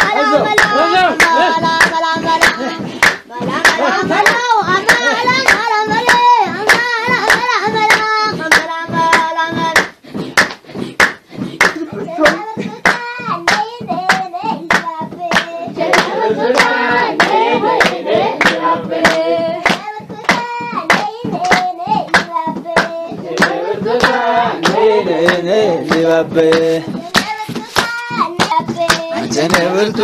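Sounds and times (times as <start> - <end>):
voices singing: 0.0 - 10.3, 11.4 - 30.0
rhythmic hand clapping: 0.0 - 30.0.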